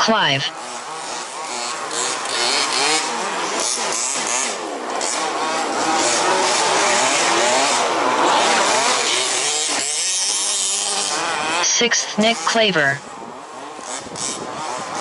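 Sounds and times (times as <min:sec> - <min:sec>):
rc buggy engines revving: 0:00.0 - 0:15.0.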